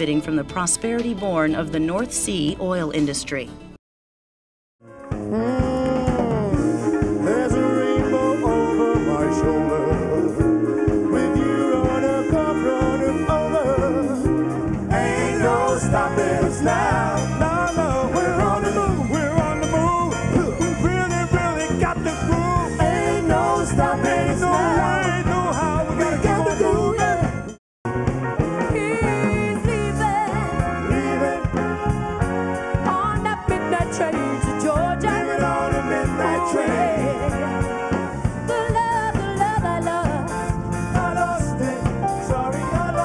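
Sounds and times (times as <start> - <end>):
live band with drums and brass: 4.8 - 43.0
vocal group singing: 5.3 - 27.6, 28.8 - 32.3, 33.8 - 43.0.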